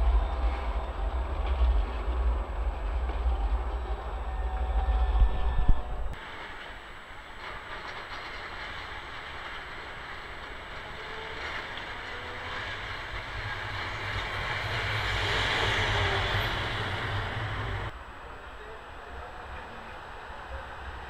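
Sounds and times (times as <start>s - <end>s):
tram rolling on rails: 0.0s - 21.0s.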